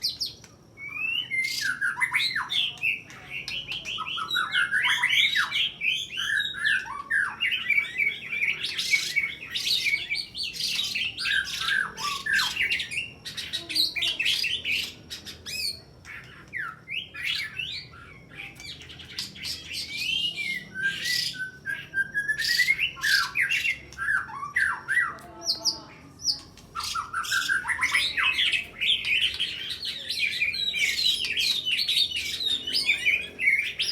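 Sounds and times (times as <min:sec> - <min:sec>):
bird singing whistles and trills: 0:00.0 - 0:33.9.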